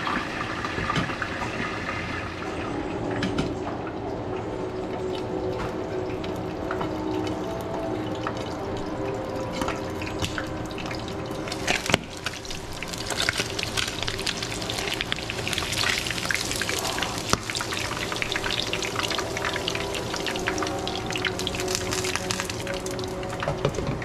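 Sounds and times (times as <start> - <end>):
fish frying in oil: 4.0 - 24.0.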